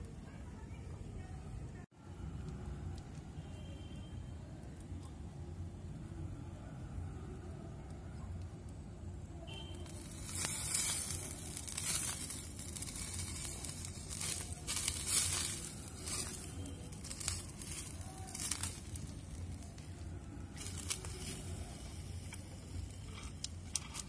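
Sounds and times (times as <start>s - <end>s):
fat sizzling on hot charcoal: 0.0s - 24.0s.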